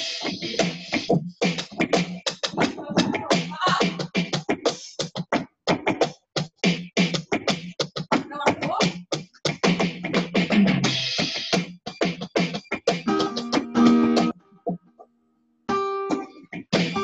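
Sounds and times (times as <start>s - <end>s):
drum kit playing busy beat: 0.0s - 14.4s, 16.1s - 17.0s.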